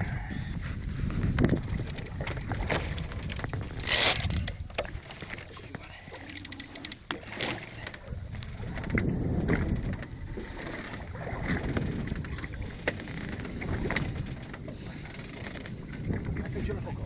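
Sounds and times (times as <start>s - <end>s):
water sloshing against boat hull: 0.6s - 17.0s.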